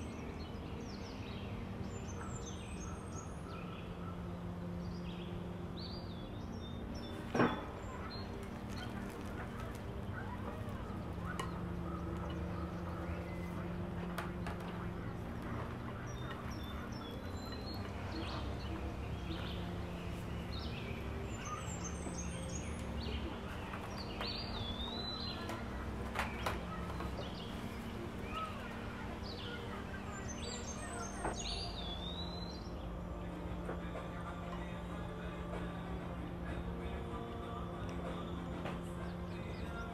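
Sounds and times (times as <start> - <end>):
small birds singing: 0.0 - 39.9
steady low hum: 0.0 - 39.9.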